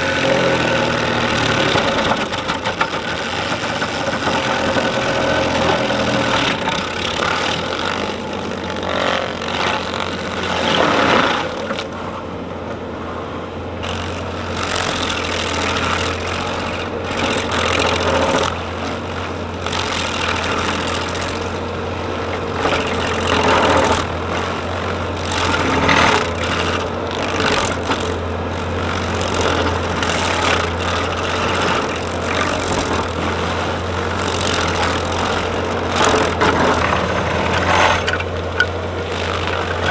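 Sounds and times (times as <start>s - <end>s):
engine running under load: 0.0s - 39.9s
stump grinder grinding wood: 0.0s - 39.9s.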